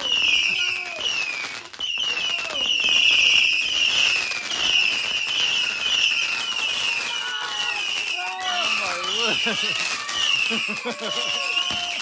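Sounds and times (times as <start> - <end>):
firework cracks: 0.0 - 12.0
shrill firework whistles: 0.0 - 12.0.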